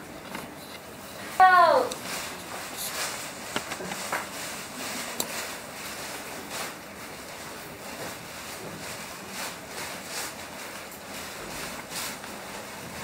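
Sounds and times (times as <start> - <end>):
sheet flapping and rustling: 0.1 - 13.0.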